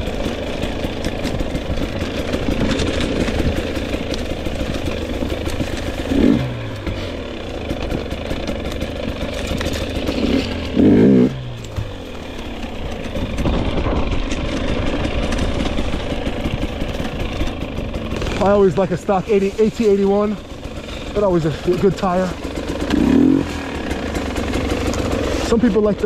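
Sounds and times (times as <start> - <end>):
bike clattering over rough ground: 0.0 - 26.0
dirt bike engine revving: 0.0 - 26.0.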